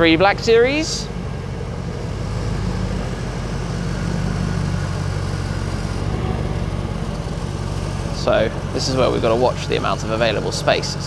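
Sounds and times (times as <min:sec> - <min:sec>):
car engine burbling at low revs: 0:00.0 - 0:11.0.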